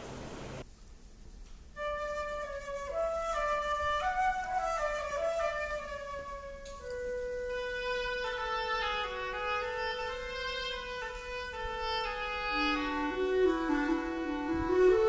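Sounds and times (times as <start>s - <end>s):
slow flute melody: 1.8s - 15.0s.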